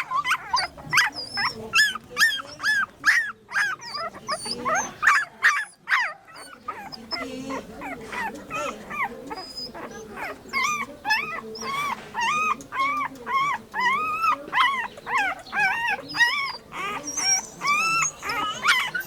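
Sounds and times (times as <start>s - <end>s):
puppy whimpering: 0.0s - 19.0s.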